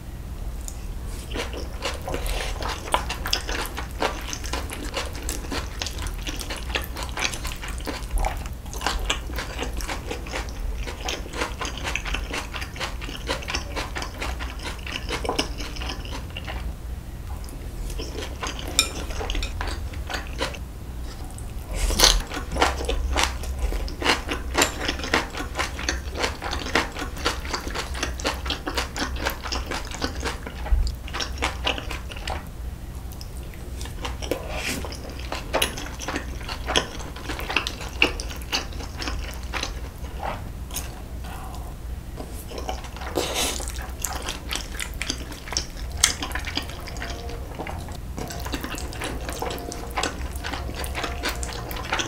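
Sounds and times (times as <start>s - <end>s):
close chewing and biting: 0.6s - 16.7s, 17.4s - 52.0s.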